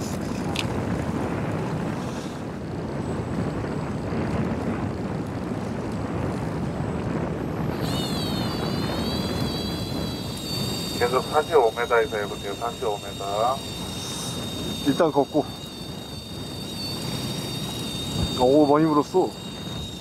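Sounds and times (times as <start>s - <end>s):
boat engine rumble: 0.0s - 20.0s
sea: 0.0s - 20.0s
wind on the microphone: 0.0s - 20.0s
high wavering whine: 0.8s - 20.0s.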